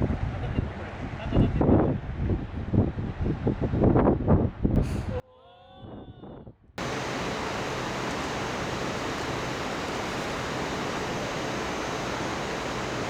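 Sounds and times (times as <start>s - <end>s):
wind rushing on microphone: 0.0s - 5.2s, 5.9s - 13.0s.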